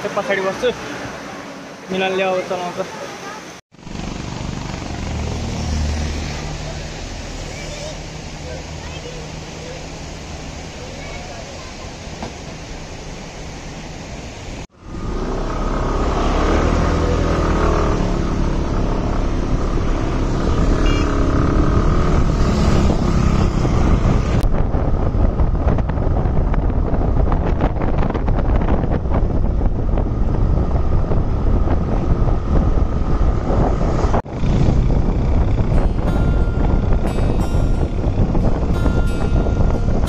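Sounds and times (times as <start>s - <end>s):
vehicle engine and road rumble: 0.0s - 40.0s.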